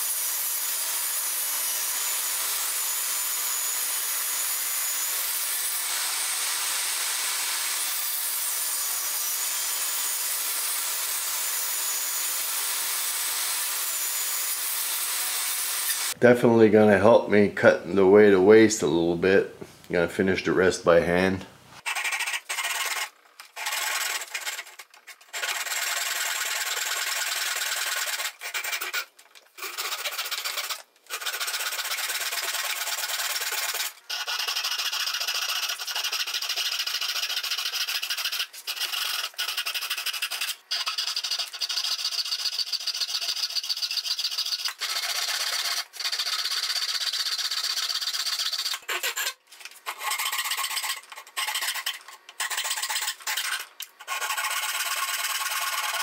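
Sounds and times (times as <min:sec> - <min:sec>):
handsaw cutting wood: 0:00.0 - 0:16.2, 0:21.8 - 0:56.0.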